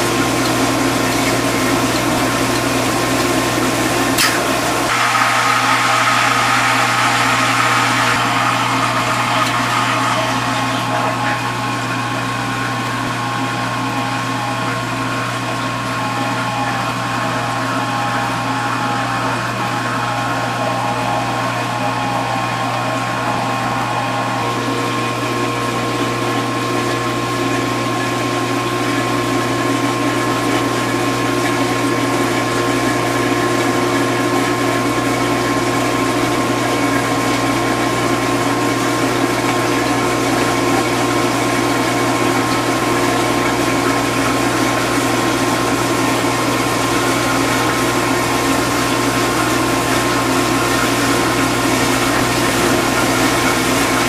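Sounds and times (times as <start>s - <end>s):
dishwasher motor hum: 0.0s - 54.0s
water churning and spraying: 0.0s - 54.0s.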